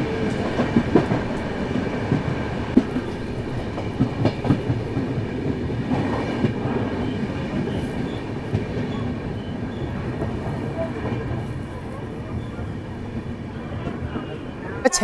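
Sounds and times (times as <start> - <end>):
train coach rumbling on track: 0.0 - 15.0.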